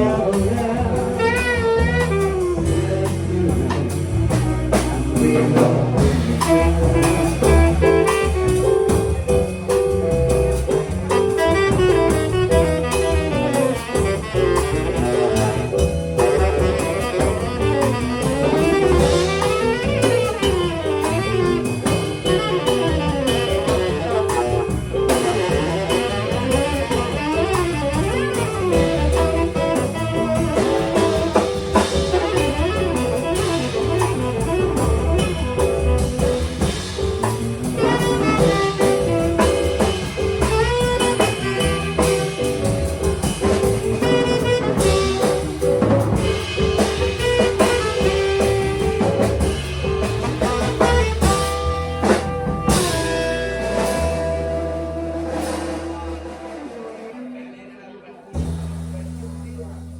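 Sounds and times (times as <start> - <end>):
drum kit: 0.0 - 57.7, 58.3 - 59.9
jazz melody line: 0.0 - 59.9.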